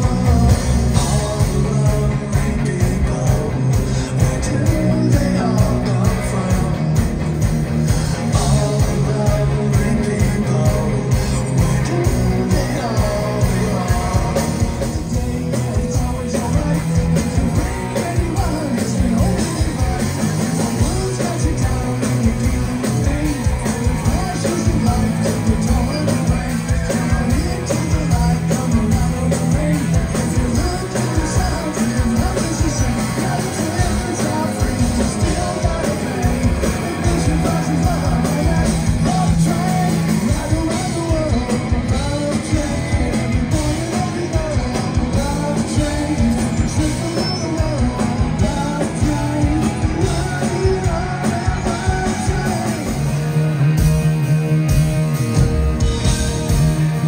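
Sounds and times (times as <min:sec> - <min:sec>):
person singing lead vocal: 0:00.0 - 0:53.8
drums: 0:00.0 - 0:57.0
electric guitars: 0:00.0 - 0:57.0.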